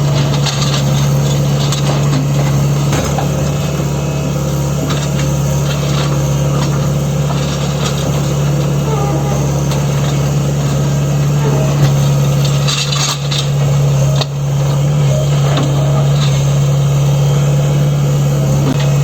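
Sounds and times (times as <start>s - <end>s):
excavator diesel engine humming: 0.0s - 19.0s.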